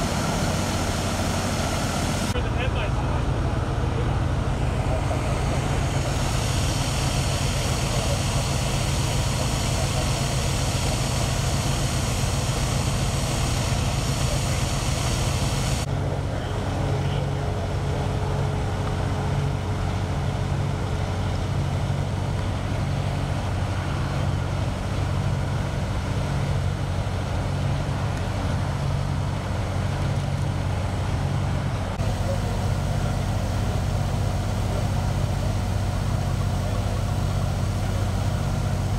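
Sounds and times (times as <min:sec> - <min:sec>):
diesel engine idling close by: 0:00.0 - 0:38.9
low rumble of idling engines: 0:00.0 - 0:38.9.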